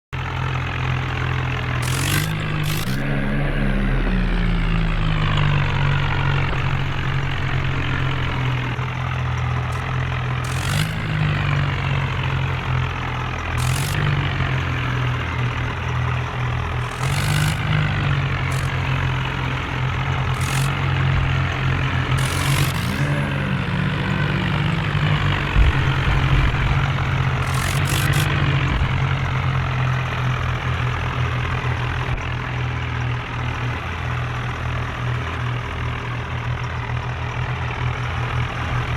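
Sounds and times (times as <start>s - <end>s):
tractor diesel engine running: 0.2s - 38.9s.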